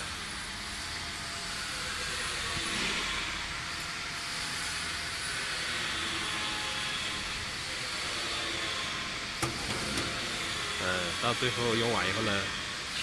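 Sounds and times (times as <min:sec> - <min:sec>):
machinery hissing and humming: 0:00.0 - 0:13.0.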